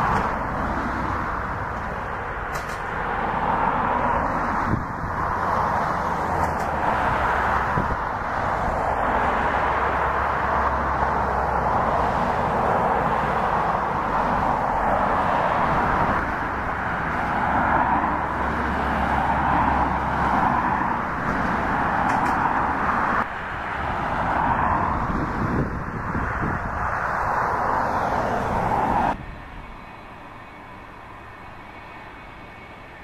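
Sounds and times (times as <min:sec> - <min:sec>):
jet engines at taxi thrust: 0:00.0 - 0:33.0.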